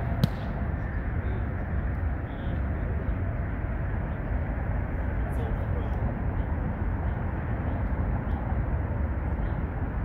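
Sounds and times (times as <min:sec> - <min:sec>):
traffic rumble: 0:00.0 - 0:10.0
wind: 0:00.0 - 0:10.0.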